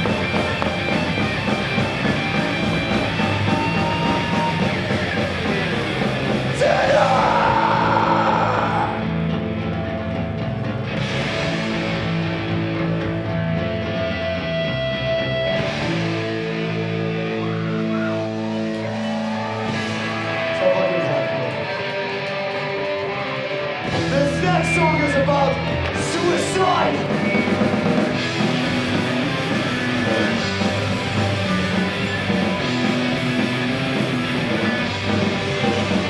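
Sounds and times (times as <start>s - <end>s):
electric guitar chords: 0.0s - 36.0s
live punk rock band: 0.0s - 36.0s.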